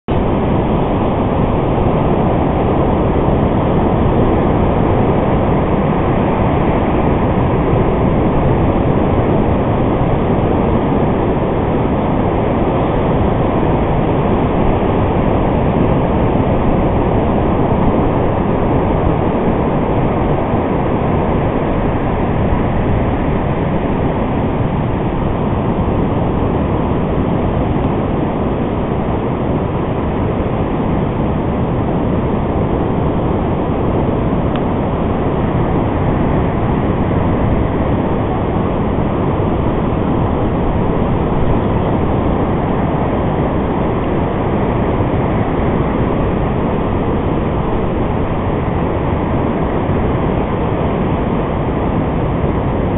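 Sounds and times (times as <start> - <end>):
wind on microphone: 0.0 - 52.9
ocean surf: 0.1 - 52.9.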